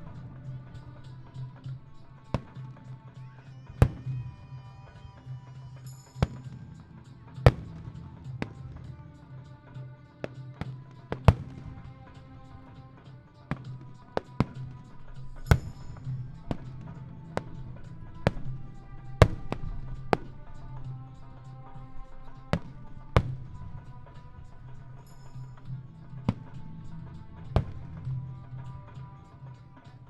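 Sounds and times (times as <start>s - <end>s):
fireworks bursting bangs: 0.0s - 5.5s, 6.1s - 9.3s, 10.1s - 29.6s
music playing: 0.0s - 30.0s.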